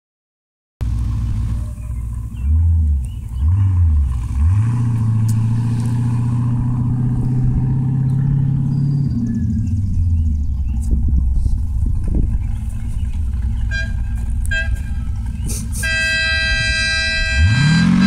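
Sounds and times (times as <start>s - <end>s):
race buggy engine revving: 0.9s - 18.0s.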